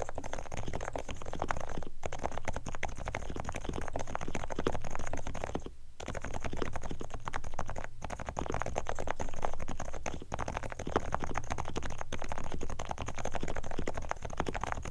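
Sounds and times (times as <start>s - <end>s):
fast keyboard typing: 0.0s - 14.9s.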